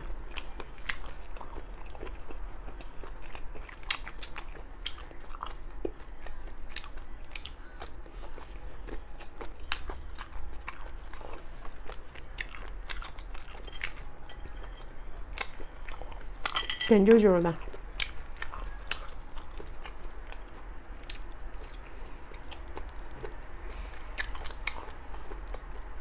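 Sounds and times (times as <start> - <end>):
person chewing: 0.3 - 16.6, 17.6 - 25.9.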